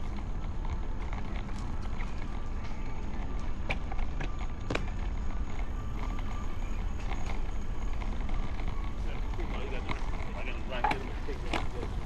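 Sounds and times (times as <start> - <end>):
bicycle road noise: 0.0 - 12.0.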